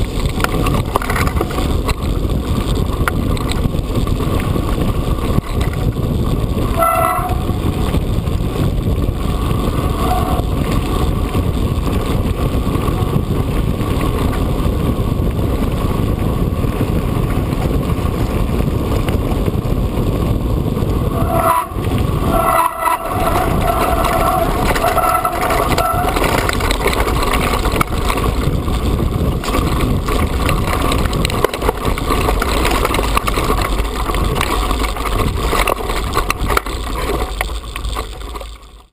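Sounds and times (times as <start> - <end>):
wind on microphone: 0.0 - 38.4
bike rattling: 0.0 - 38.9
bike tyres crunching on gravel: 0.0 - 38.9.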